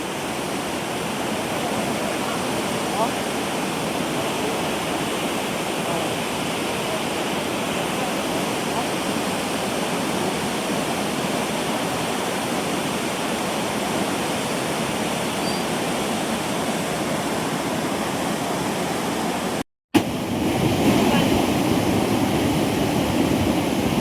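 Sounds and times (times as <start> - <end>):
rushing mountain river: 0.0 - 24.0.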